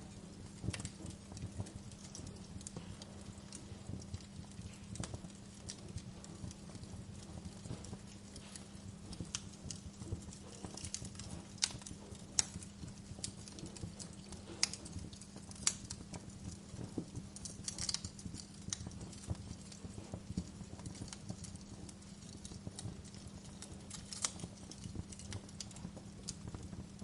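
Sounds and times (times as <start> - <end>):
low steady hum: 0.0 - 27.0
wood fire crackling: 0.0 - 27.0.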